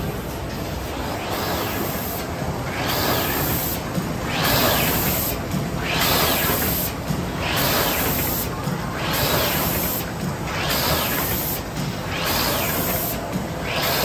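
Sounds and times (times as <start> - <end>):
machine whooshing: 0.0 - 14.0
steady mechanical hum: 0.0 - 14.0.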